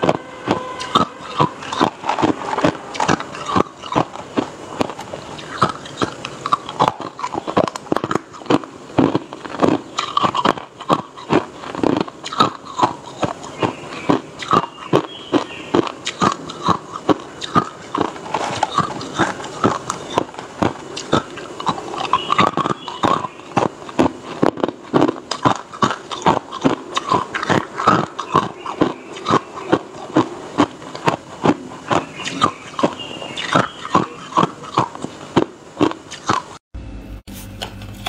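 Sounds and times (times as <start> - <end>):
person chewing ice crunching: 0.0 - 36.6.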